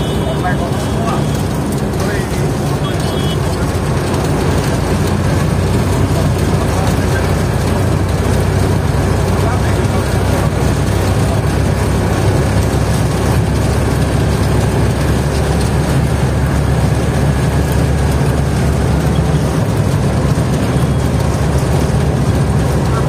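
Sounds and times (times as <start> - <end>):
bus engine running: 0.0 - 23.0
road noise: 0.0 - 23.0.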